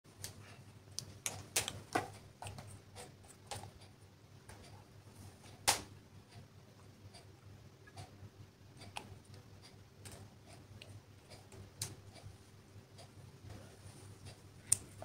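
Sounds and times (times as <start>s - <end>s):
faint low hum: 0.1s - 15.0s.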